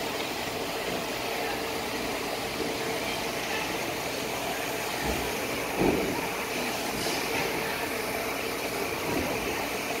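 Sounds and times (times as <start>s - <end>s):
faint indistinct voices: 0.8s - 10.0s.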